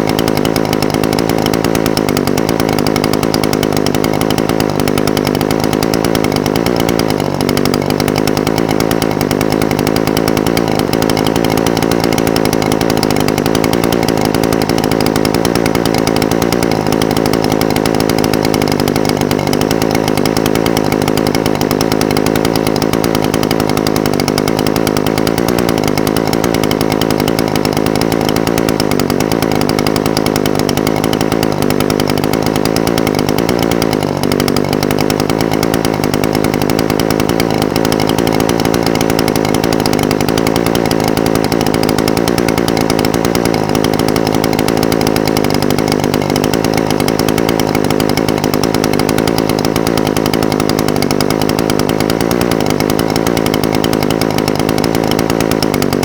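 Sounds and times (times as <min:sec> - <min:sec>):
brush cutter engine idling: 0:00.0 - 0:56.0.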